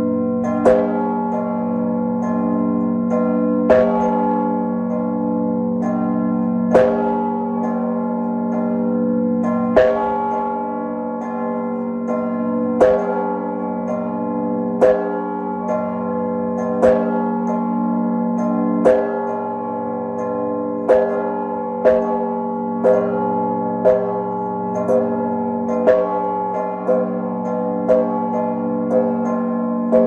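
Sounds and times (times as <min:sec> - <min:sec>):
hum of ringing bells: 0:00.0 - 0:30.0
large church bell striking: 0:00.0 - 0:30.0
smaller bells striking: 0:00.0 - 0:30.0.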